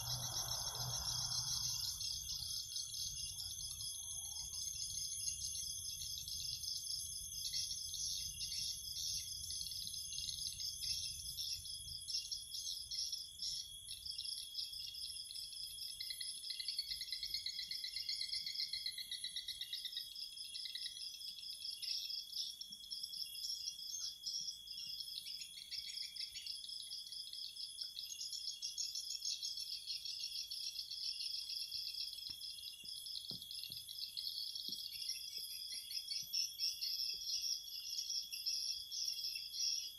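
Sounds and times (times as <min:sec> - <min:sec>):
crickets chirping: 0:00.0 - 0:39.9
high insect whine: 0:00.0 - 0:39.9
lower trilling insect call: 0:00.0 - 0:39.9.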